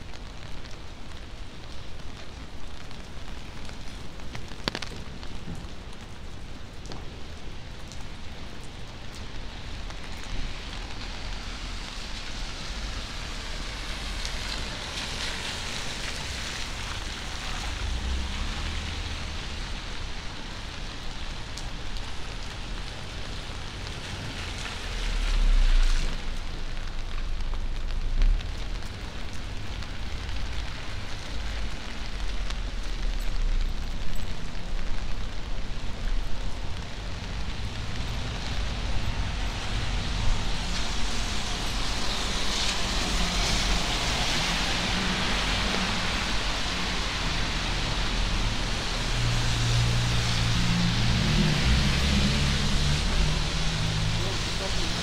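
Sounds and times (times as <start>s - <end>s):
rain on a street: 0.0s - 55.0s.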